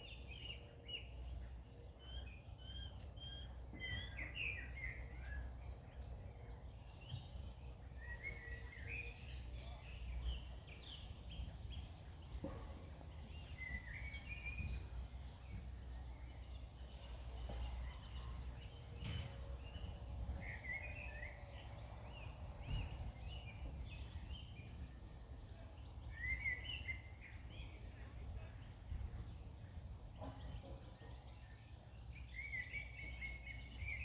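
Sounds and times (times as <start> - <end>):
small birds singing: 0.0 - 34.0.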